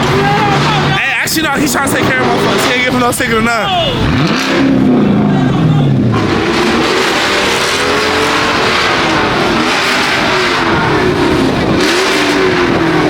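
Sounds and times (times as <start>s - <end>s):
car engines revving: 0.0s - 13.0s
loud steady rushing noise: 0.0s - 13.0s.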